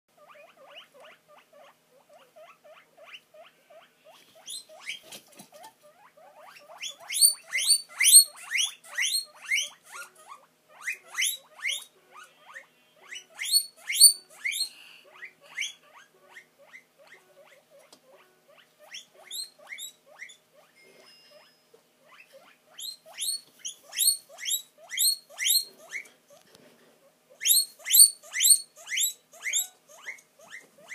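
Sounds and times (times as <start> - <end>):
guinea pig wheeking squeals: 0.1 - 30.9.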